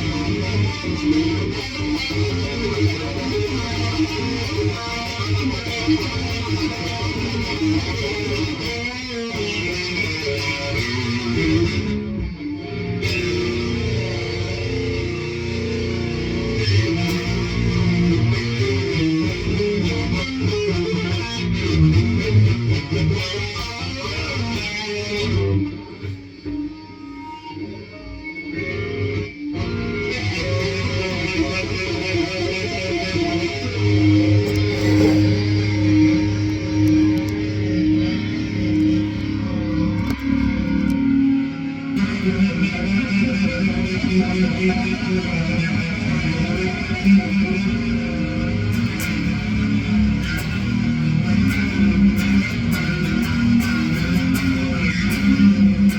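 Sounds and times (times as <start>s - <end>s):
distorted electric guitar: 0.0s - 55.9s.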